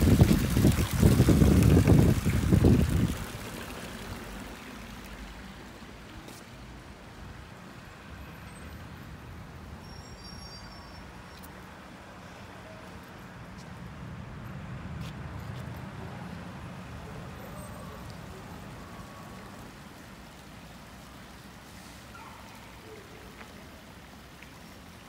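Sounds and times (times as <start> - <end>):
fountain splashing: 0.0 - 14.2, 15.6 - 25.0.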